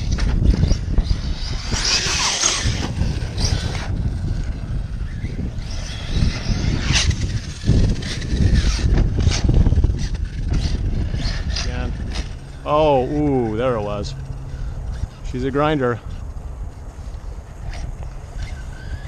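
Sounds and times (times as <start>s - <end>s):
electric motor whining: 0.0s - 19.0s
low rumble of wind and tyres: 0.0s - 19.0s.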